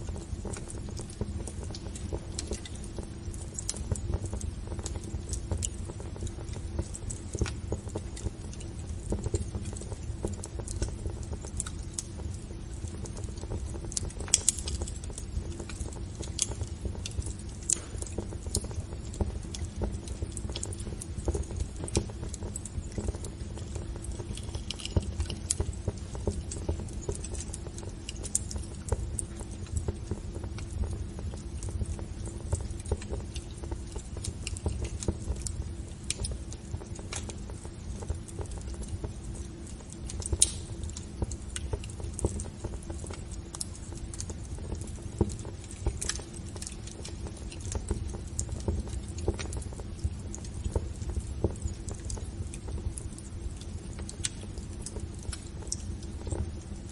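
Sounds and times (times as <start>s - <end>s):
low rumble of fire: 0.0s - 56.9s
wood fire crackling: 0.0s - 56.9s.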